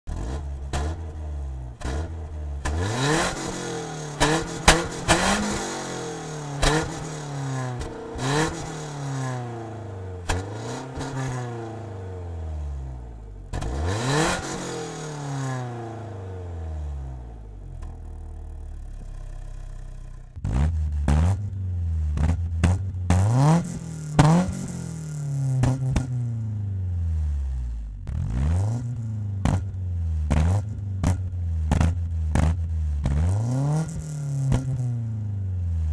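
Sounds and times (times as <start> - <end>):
exhaust cracks: 0.1 - 12.3, 13.1 - 15.7, 17.2 - 26.4, 28.0 - 35.0
car engine revving: 0.1 - 35.9.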